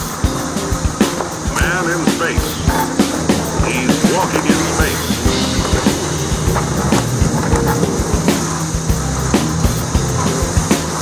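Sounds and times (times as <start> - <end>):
short drum hits: 0.0 - 11.0
sustained low tones: 0.3 - 11.0.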